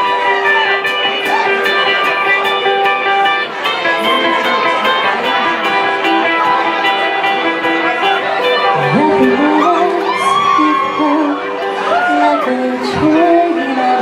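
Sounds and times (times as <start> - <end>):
guitar: 0.0 - 14.0
held sung-like notes: 0.0 - 14.0.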